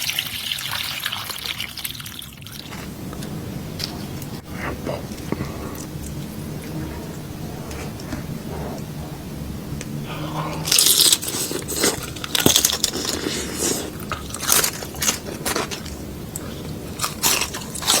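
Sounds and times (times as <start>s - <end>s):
crunchy food being chewed: 1.1s - 18.0s.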